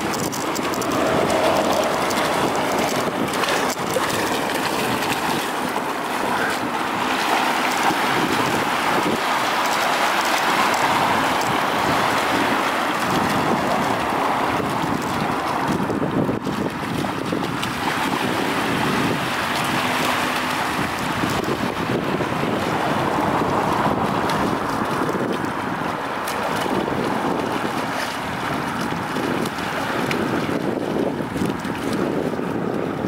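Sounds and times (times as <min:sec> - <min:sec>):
dog wading through water: 0:00.0 - 0:33.0
small waves lapping: 0:00.0 - 0:33.0
wind on microphone: 0:00.0 - 0:33.0.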